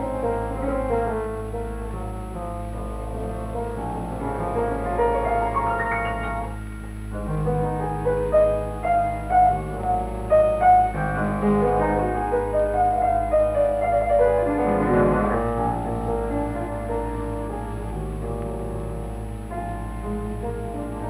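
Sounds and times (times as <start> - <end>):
piano music: 0.0 - 21.0
steady low hum: 0.0 - 21.0.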